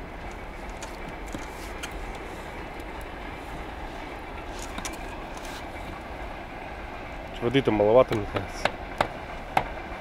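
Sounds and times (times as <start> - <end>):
steady rumbling noise: 0.0 - 10.0.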